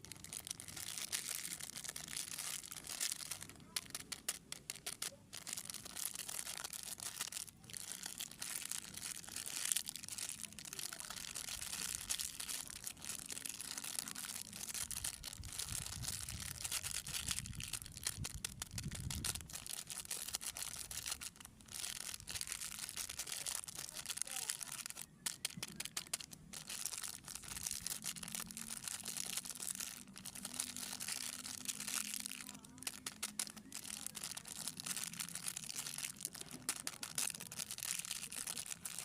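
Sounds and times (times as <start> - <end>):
plastic wrappers crinkling: 0.0 - 39.0.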